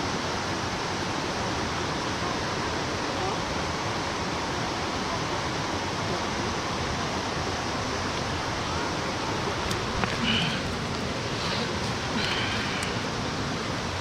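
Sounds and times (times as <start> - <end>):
stream rushing: 0.0 - 14.0.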